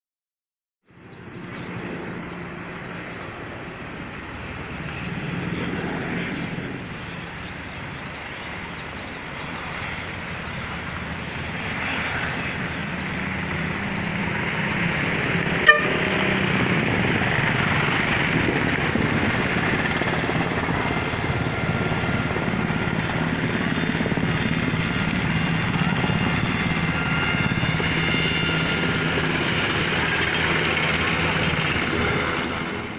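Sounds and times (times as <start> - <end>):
helicopter rotor and turbine engine: 0.8 - 32.9.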